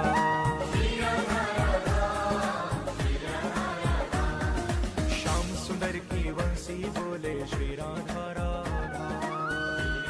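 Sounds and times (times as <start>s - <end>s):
instrumental melody line: 0.0s - 7.7s, 8.4s - 10.0s
drum beats: 0.0s - 10.0s.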